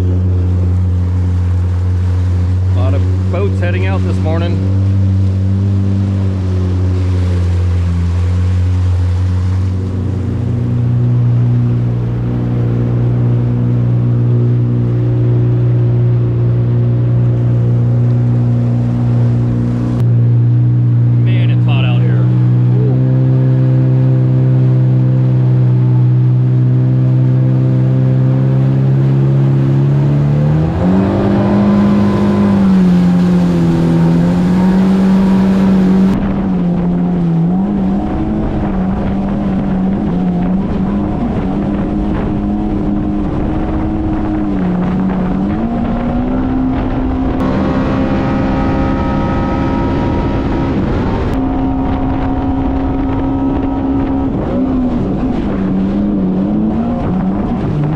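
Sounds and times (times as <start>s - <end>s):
jet ski engine running: 0.0s - 57.9s.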